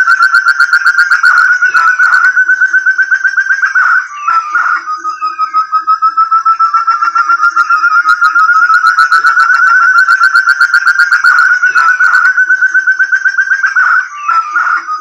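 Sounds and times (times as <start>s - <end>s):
partridge whistling call: 0.0s - 15.0s.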